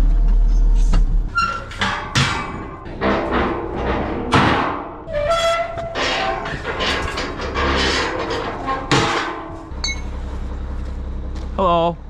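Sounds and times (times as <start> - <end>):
steel ramps clanking: 0.3 - 10.4.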